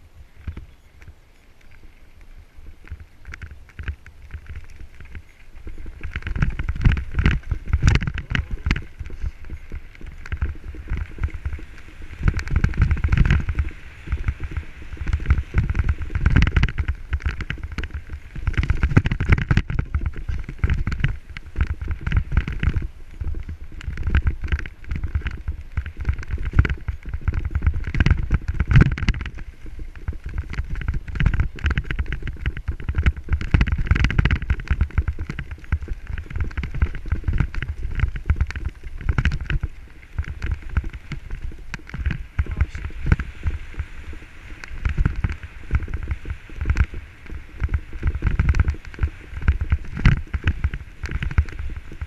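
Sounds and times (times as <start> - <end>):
mountain bike rattling: 0.0 - 52.0
tyres rumbling over stones: 0.0 - 52.0.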